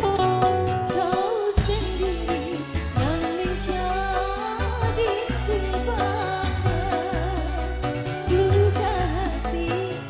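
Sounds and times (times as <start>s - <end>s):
band with bass and percussion: 0.0s - 10.0s
woman singing: 0.5s - 10.0s.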